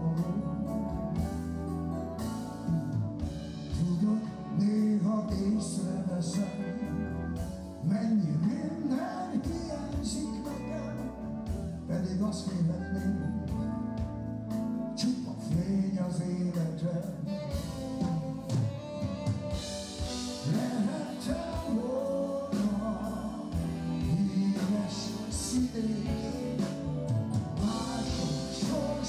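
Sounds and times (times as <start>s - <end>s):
man singing: 0.0s - 1.4s, 3.6s - 14.1s, 14.9s - 29.0s
live band playing: 0.0s - 29.0s.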